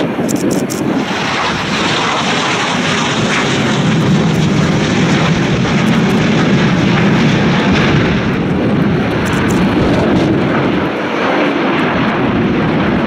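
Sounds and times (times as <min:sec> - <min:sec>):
jet flying overhead: 0:00.0 - 0:13.0.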